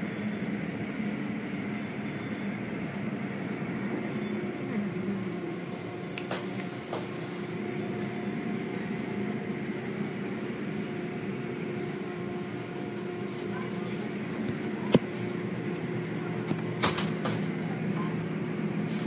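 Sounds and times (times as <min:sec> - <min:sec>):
mechanical hum of motors: 0:00.0 - 0:19.0.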